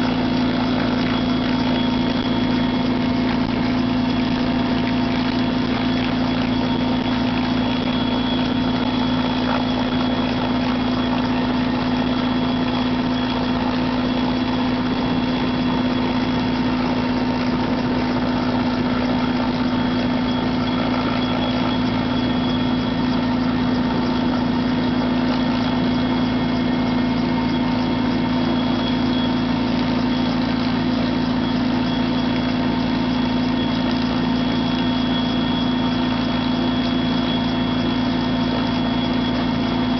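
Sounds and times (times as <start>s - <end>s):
helicopter engine and rotor: 0.0s - 39.9s
thin high whine: 0.0s - 39.9s.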